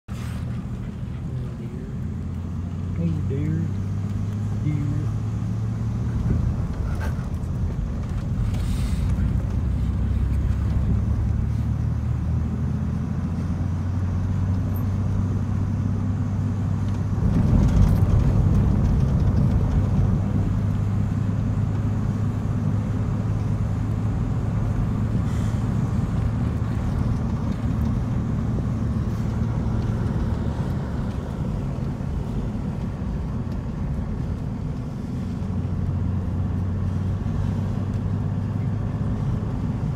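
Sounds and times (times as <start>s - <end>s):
car road and engine drone: 0.0s - 39.9s.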